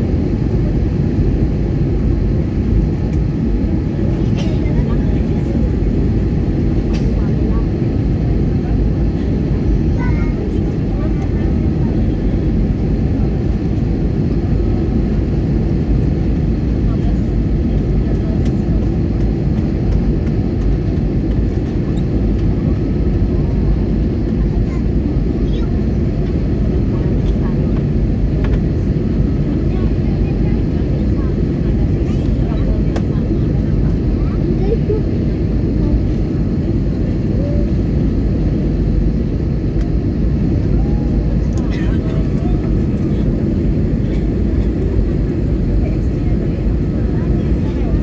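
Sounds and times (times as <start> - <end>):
airliner engines rumbling: 0.0 - 48.0.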